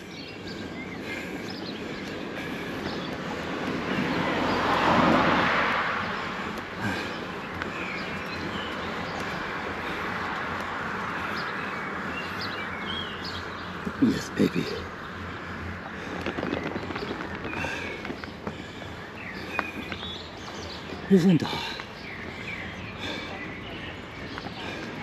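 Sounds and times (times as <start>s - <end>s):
bicycle rolling: 0.0s - 25.0s.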